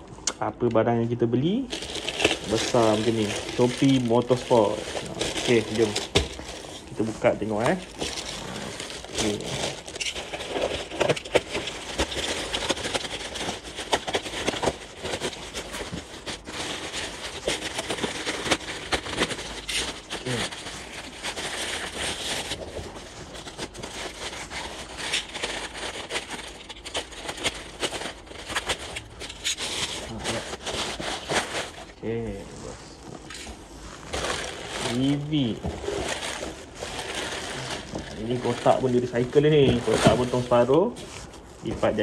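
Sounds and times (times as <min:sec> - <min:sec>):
plastic wrapping crinkling and tearing: 0:01.3 - 0:42.0.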